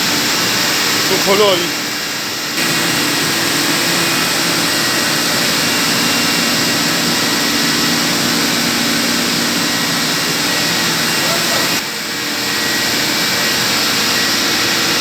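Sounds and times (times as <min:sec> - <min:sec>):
chiller machinery hum and hiss: 0:00.0 - 0:15.0.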